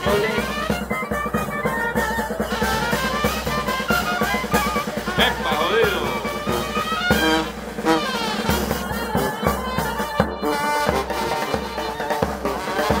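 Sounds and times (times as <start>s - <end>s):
music with drums and brass: 0.0s - 13.0s.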